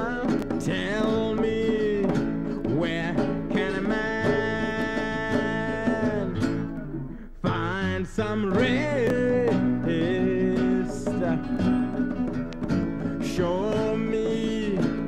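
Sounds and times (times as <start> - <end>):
person singing: 0.0 - 12.3, 13.2 - 15.0
acoustic guitar: 0.0 - 15.0.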